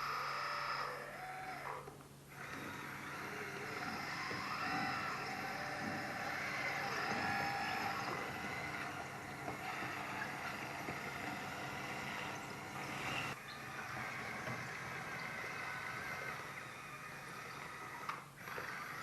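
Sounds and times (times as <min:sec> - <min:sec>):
electric hydraulic pump whining: 0:00.0 - 0:19.0.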